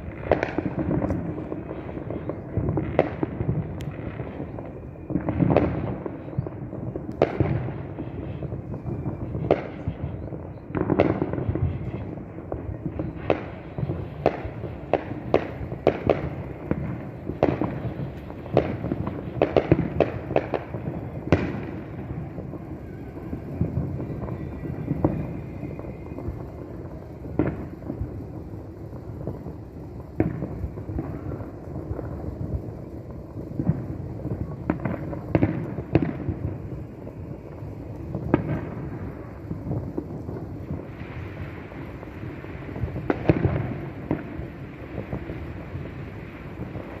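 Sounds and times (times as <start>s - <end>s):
continuous rumble: 0.0s - 47.0s
distant fireworks bangs: 0.0s - 47.0s.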